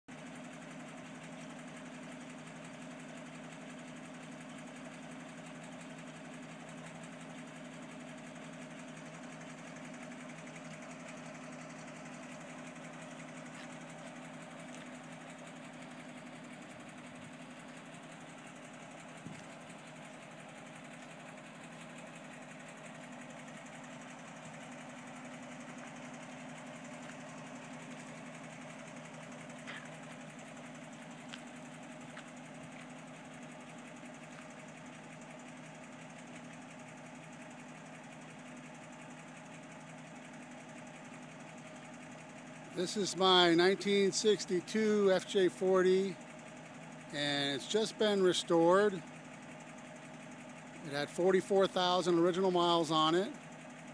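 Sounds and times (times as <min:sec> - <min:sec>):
car engine idling: 0:00.1 - 0:53.9.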